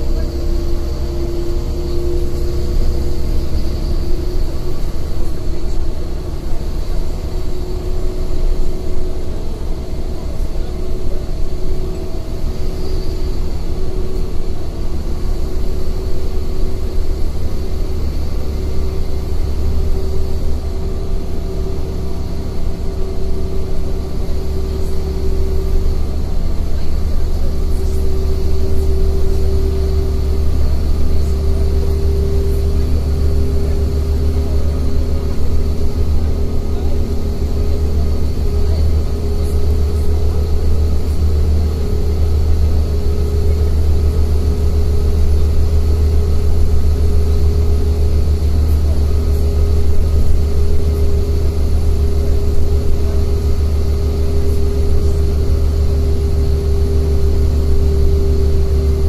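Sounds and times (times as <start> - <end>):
bus engine and road drone: 0.0 - 59.0
steady whine: 0.0 - 59.0.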